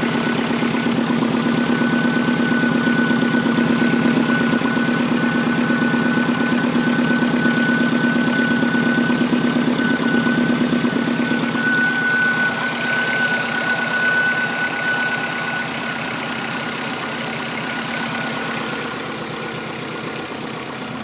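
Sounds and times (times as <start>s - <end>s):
high-pitched pump whistle: 0.0s - 19.1s
car engine idling: 0.0s - 21.0s.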